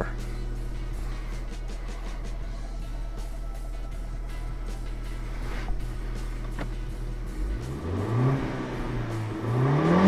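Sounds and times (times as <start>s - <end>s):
background music with a beat: 0.0s - 10.0s
car engine idling: 0.0s - 10.0s.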